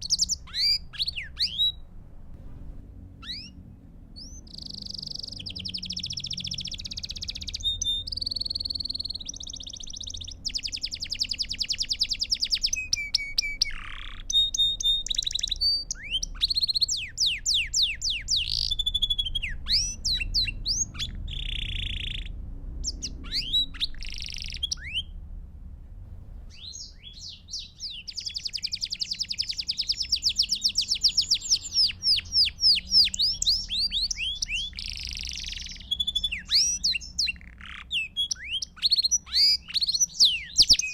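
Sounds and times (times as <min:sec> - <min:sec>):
canary singing trills: 0:00.0 - 0:02.0, 0:03.1 - 0:25.2, 0:26.5 - 0:40.9.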